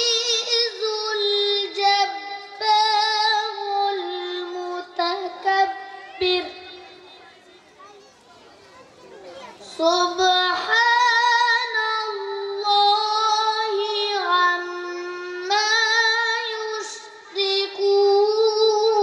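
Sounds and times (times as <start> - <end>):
boy chanting: 0.0 - 8.0, 9.2 - 19.0.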